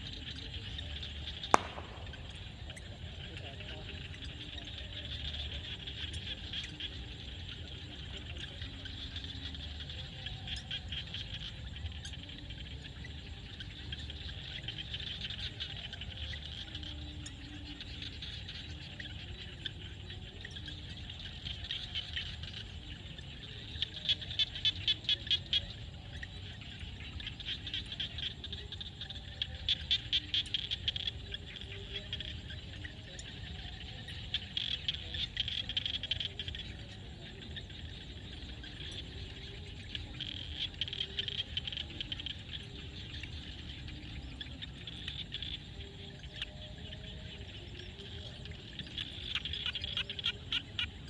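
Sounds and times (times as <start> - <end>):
frog call of rapid pulses: 0.0 - 51.0
frogs chorusing: 0.0 - 51.0.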